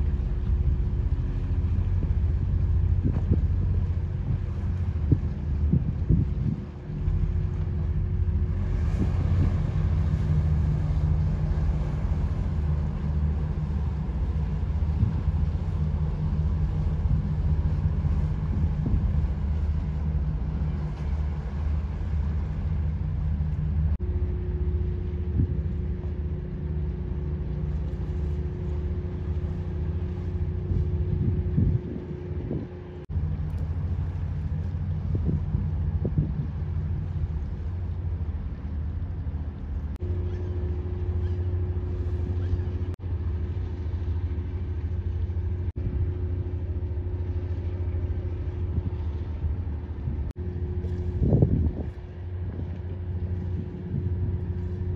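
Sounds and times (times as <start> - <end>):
boat engine droning: 0.0 - 54.9.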